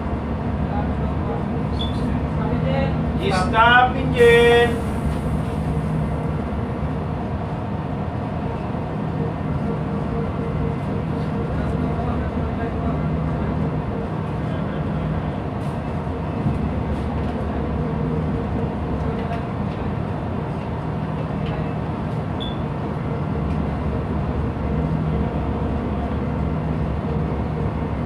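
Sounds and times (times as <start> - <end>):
engine room machinery rumbling: 0.0 - 28.0.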